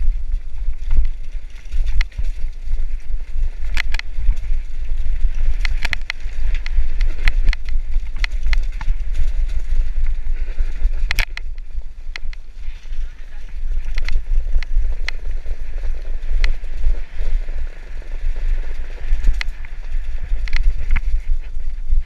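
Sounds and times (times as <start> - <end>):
bike clicking and rattling over stones: 0.0 - 22.0
wind rumble on microphone: 0.0 - 22.0.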